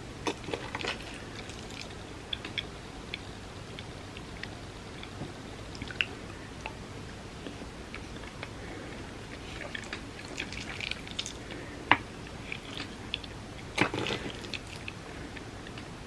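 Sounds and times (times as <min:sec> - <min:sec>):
wet chewing and mouth sounds: 0:00.0 - 0:06.8, 0:07.4 - 0:15.9.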